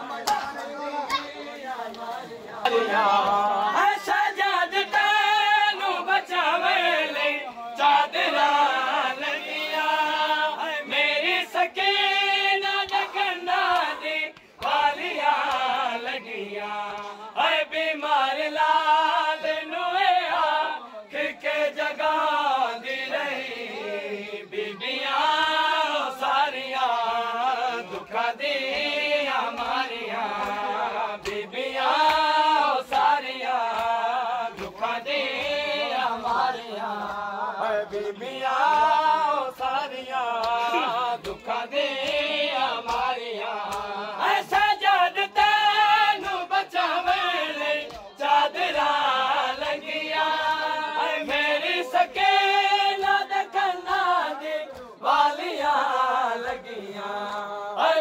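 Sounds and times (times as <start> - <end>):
men chanting a lament: 0.0 - 58.0.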